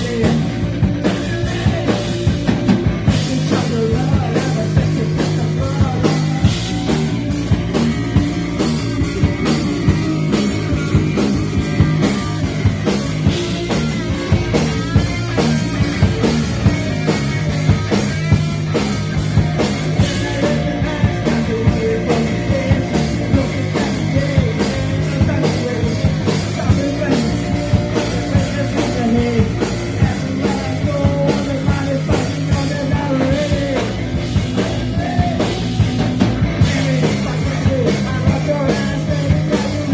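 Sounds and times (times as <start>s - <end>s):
person singing: 0.0s - 2.4s, 3.0s - 7.9s, 9.4s - 14.8s, 19.6s - 39.9s
driving drum beat: 0.0s - 39.9s
punk rock band playing live: 0.0s - 39.9s.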